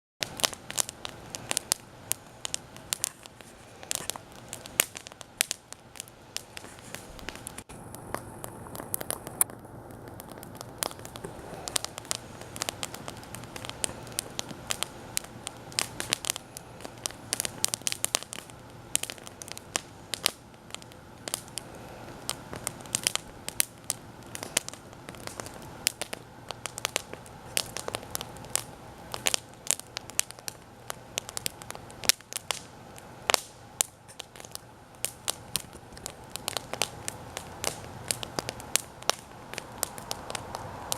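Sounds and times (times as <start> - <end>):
background hiss: 0.2 - 40.9
campfire crackling and popping: 0.2 - 40.9.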